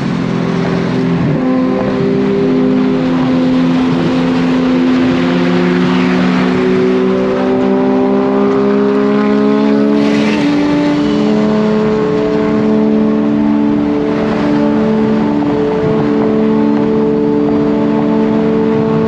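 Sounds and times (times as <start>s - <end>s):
car engine accelerating: 0.0s - 19.0s
road noise: 0.0s - 19.0s.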